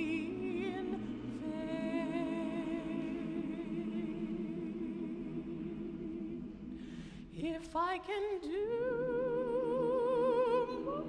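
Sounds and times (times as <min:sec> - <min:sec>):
choir singing: 0:00.0 - 0:11.0.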